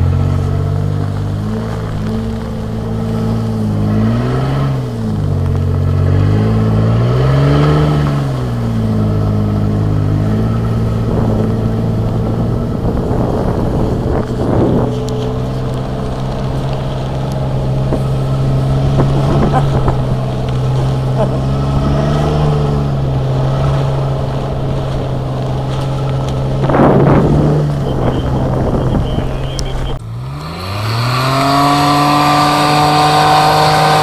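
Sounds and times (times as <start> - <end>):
car engine revving: 0.0 - 34.0
rough crackling noise: 0.0 - 34.0.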